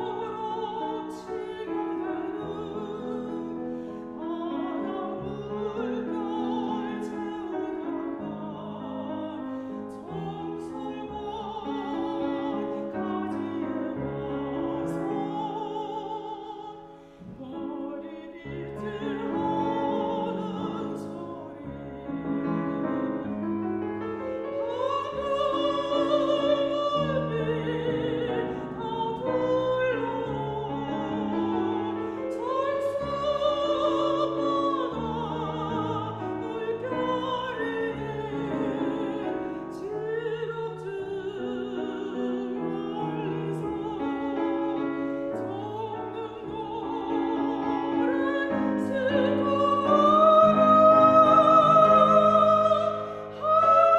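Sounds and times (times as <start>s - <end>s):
woman singing with vibrato: 0.0s - 23.4s, 24.2s - 53.9s
piano accompaniment: 0.0s - 53.9s.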